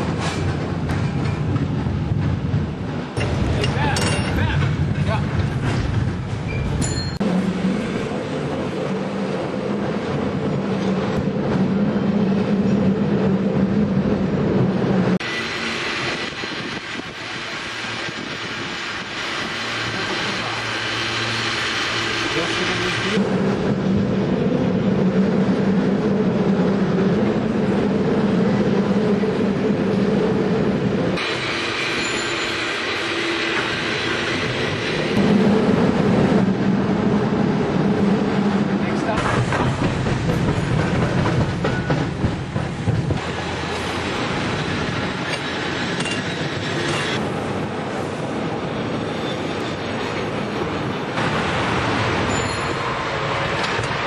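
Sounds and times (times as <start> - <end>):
tram running on rails: 0.0 - 54.0.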